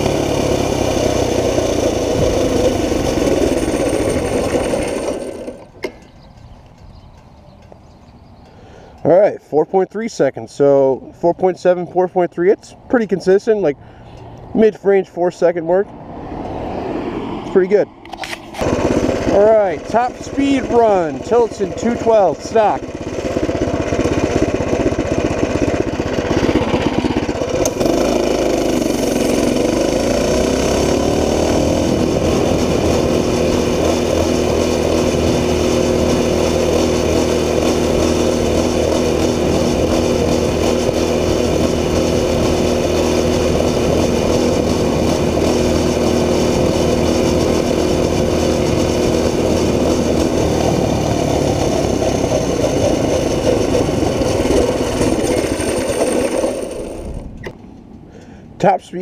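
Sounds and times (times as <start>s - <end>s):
single-cylinder engine full throttle: 0.0s - 9.1s, 13.2s - 58.4s.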